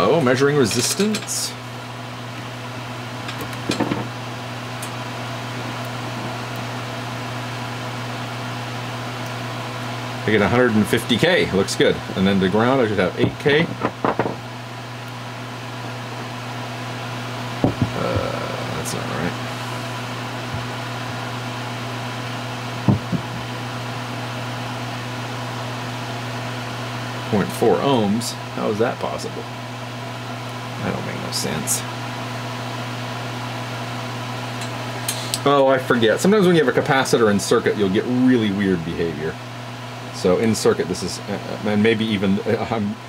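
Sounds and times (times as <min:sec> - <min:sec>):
low fan hum: 0:00.0 - 0:43.0.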